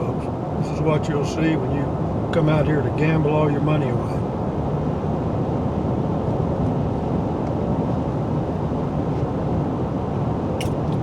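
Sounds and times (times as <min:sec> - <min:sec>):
road and engine noise inside vehicle: 0:00.0 - 0:11.0.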